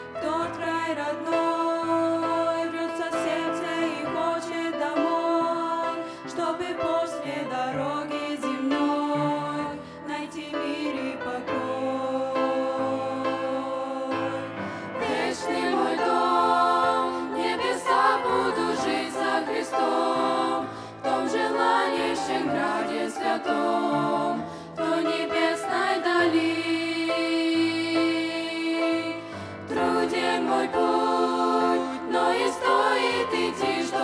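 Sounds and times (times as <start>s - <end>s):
girls singing in harmony: 0.0s - 34.0s.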